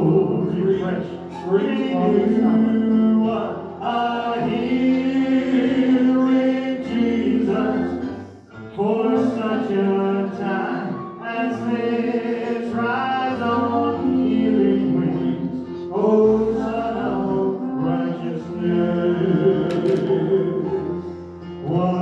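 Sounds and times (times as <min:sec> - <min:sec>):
group singing gospel song: 0:00.0 - 0:22.0.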